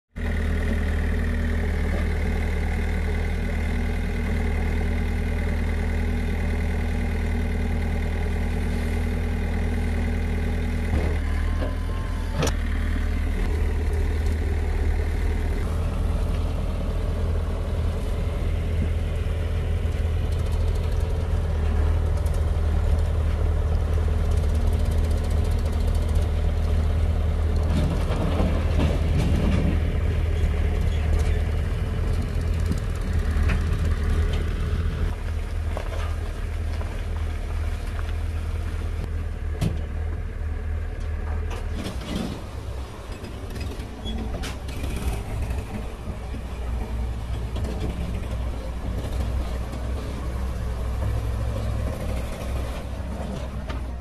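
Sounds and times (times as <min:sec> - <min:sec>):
diesel engines running: 0:00.1 - 0:54.0.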